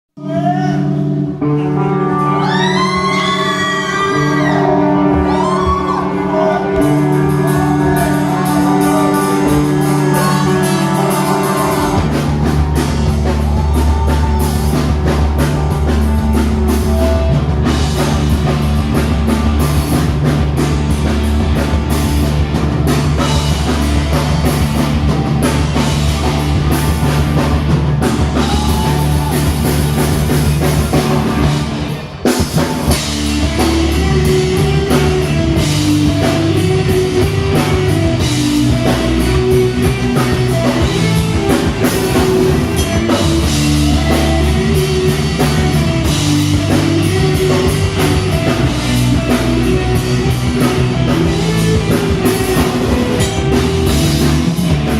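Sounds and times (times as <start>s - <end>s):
bass and drum kit: 0.2s - 54.9s
rock band playing: 0.2s - 54.9s
held chords with gliding melody: 0.5s - 54.9s.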